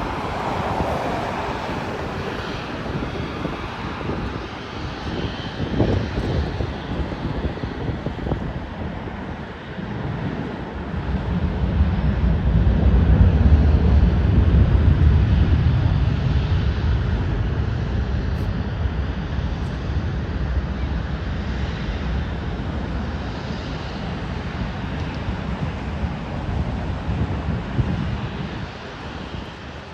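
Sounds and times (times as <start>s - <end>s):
jet airliner engine rumble: 0.0s - 29.9s.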